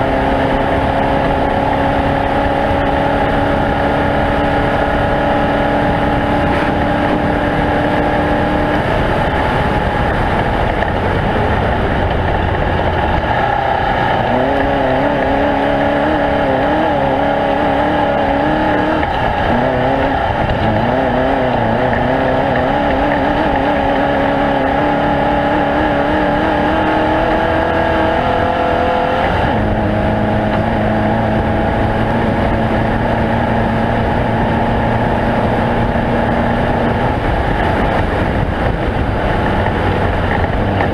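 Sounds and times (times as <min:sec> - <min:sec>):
race vehicle engine revving: 0:00.0 - 0:40.9.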